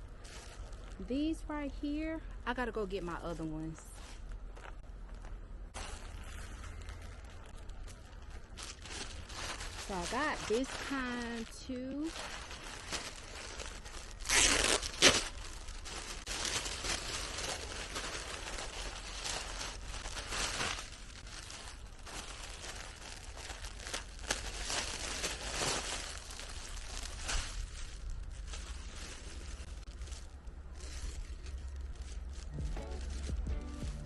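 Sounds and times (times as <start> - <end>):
net bags crinkling and rustling: 3.6 - 34.0.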